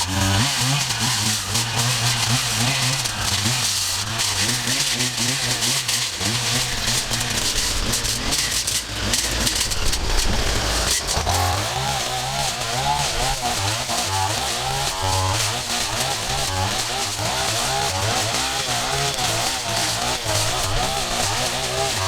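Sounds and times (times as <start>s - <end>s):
small petrol engines running: 0.0s - 22.0s.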